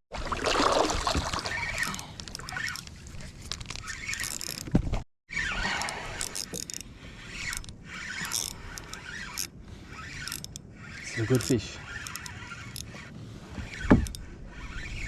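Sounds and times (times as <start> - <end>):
fishing reel squealing and ratcheting: 1.3 - 4.7, 5.3 - 15.0.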